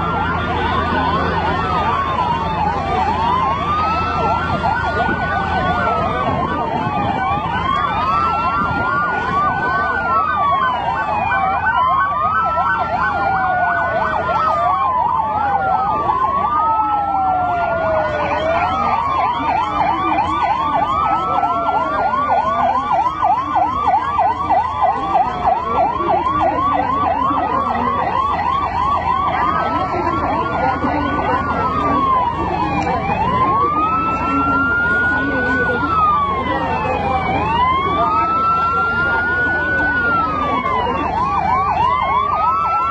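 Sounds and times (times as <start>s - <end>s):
fast yelping siren: 0.0s - 42.9s
siren slow wail: 0.0s - 42.9s.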